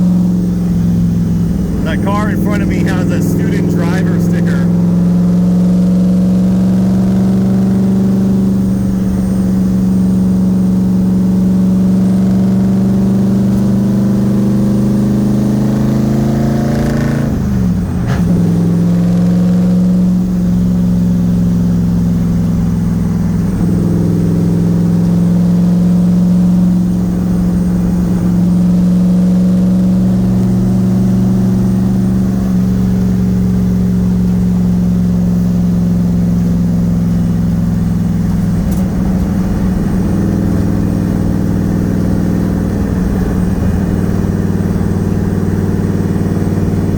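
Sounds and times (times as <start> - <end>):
car engine drone from cabin: 0.0 - 46.9.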